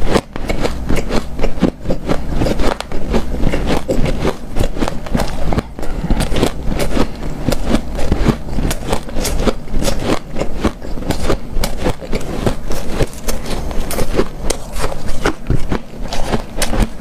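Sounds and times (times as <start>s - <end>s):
chewing ice powder crunches: 0.0s - 17.0s.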